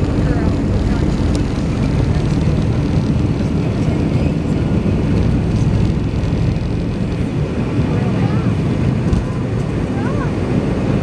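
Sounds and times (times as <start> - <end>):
jet engines low rumble: 0.0 - 11.0
wheels running on runway: 0.0 - 11.0.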